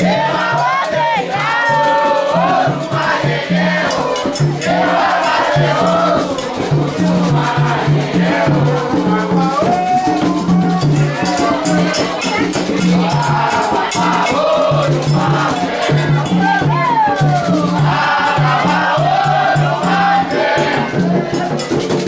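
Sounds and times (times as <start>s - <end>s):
group of voices chanting: 0.0s - 22.0s
hand drums: 0.0s - 22.0s.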